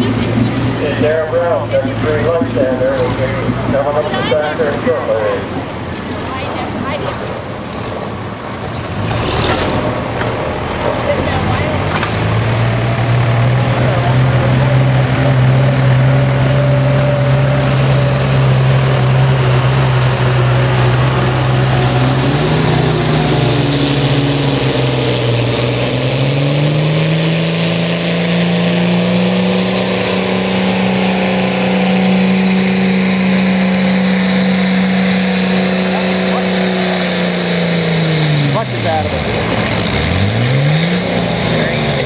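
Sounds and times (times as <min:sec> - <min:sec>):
tractor diesel engine revving: 0:00.0 - 0:42.0.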